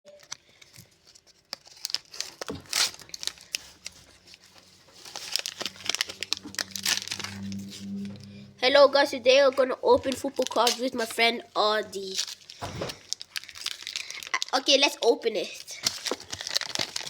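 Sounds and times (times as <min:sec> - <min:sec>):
foil wrapper crinkling and tearing: 0:00.2 - 0:08.0, 0:10.0 - 0:17.0.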